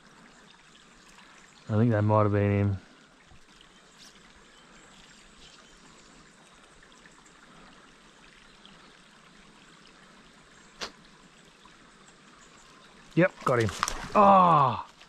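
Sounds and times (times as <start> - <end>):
creek trickling: 0.0 - 15.0.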